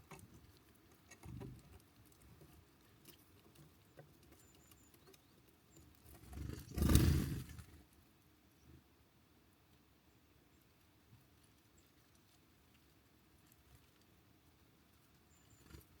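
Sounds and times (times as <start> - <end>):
faint pecking and tapping: 0.0 - 6.8, 9.5 - 16.0.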